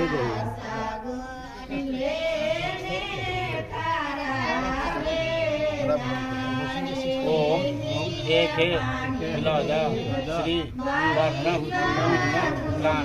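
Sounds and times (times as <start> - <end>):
voices singing slow melody: 0.0 - 13.0.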